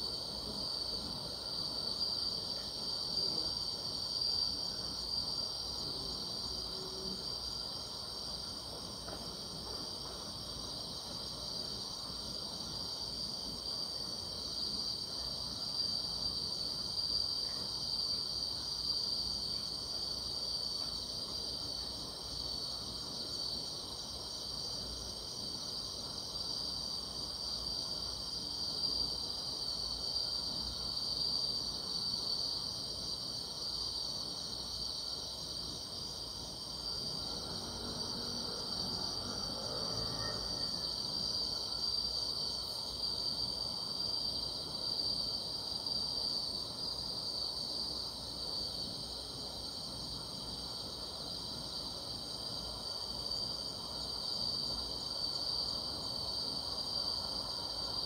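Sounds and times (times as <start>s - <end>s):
grass insects trilling: 0.0s - 58.0s.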